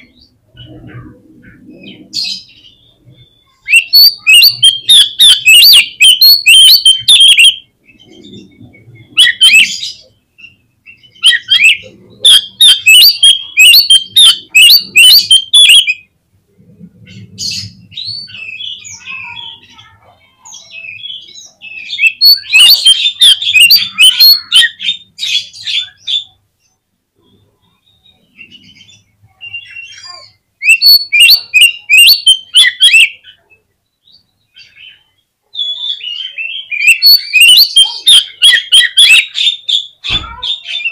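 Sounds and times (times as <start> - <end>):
bird singing rapid chirping: 0.0 - 16.1, 17.1 - 40.9.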